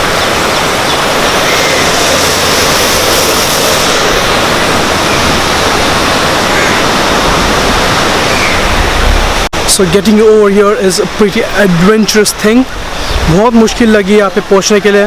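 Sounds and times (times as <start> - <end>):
waterfall rushing loudly: 0.0 - 15.0.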